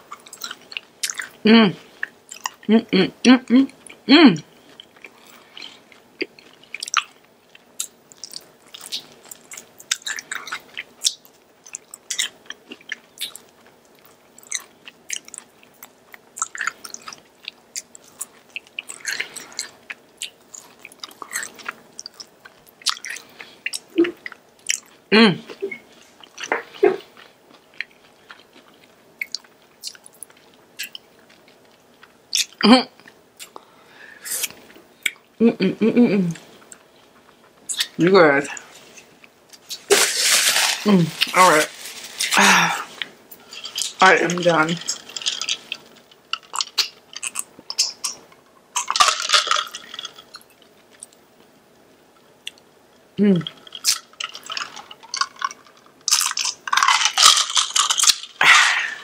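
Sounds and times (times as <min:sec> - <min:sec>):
chewing and crunching: 0:00.0 - 0:02.7, 0:03.7 - 0:35.4, 0:36.4 - 0:51.6, 0:52.2 - 0:59.0.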